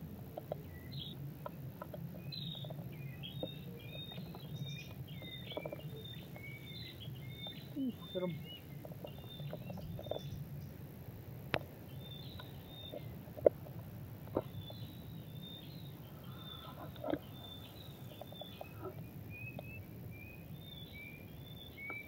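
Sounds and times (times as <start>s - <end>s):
birds chirping: 0.0s - 22.0s
low steady rumble: 0.0s - 22.0s.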